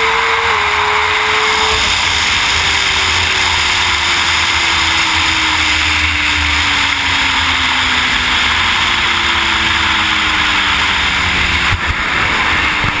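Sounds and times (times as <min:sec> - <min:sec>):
motorcycle engine: 0:00.0 - 0:13.0
wind rush and buffeting: 0:00.0 - 0:13.0.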